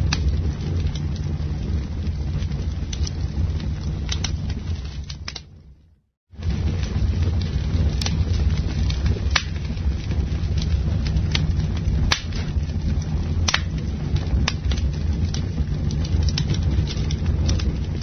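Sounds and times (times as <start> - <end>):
campfire crackling and popping: 0.0 - 5.8, 6.4 - 18.0
fire low rumble: 0.0 - 18.0.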